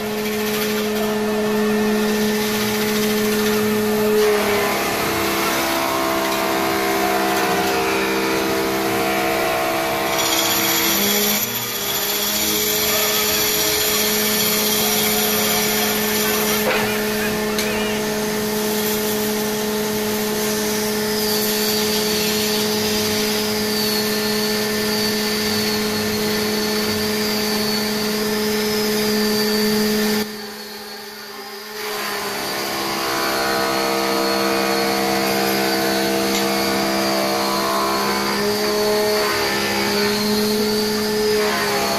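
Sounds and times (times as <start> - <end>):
tool scraping spinning wood: 0.0 - 30.2, 31.8 - 41.9
lathe motor hum: 0.0 - 41.9.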